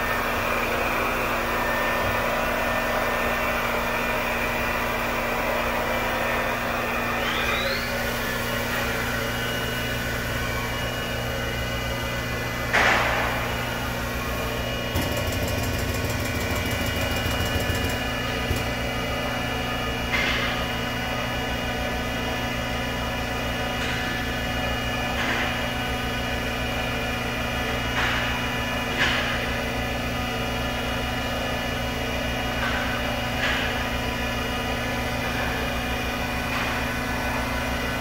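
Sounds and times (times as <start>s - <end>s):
machine hum with steady tones: 0.0s - 38.0s.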